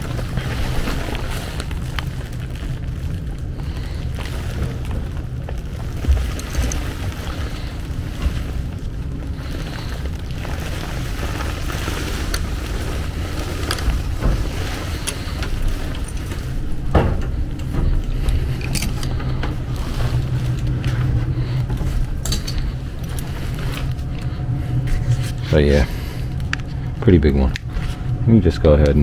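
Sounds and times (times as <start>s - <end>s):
gas furnace rumbling: 0.0s - 29.0s.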